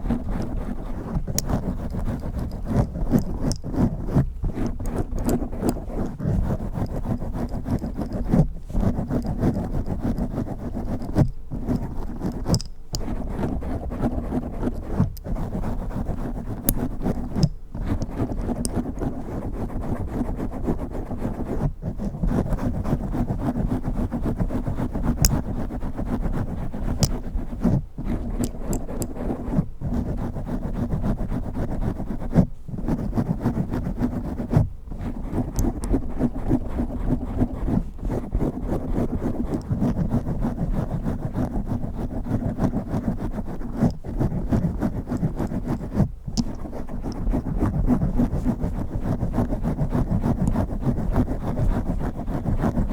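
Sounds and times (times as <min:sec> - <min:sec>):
fingernails scratching a microphone: 0:00.0 - 0:52.9.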